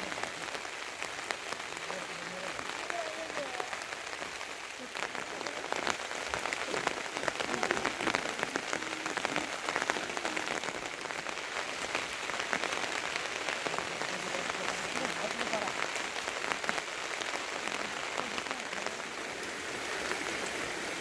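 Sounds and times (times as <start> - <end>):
close raindrop hits: 0.0 - 21.0
heavy rain hissing: 0.0 - 21.0.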